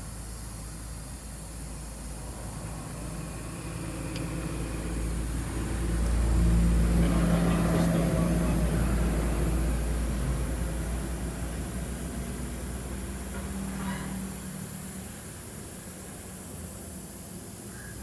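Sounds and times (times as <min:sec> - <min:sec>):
engine humming: 0:00.0 - 0:16.3.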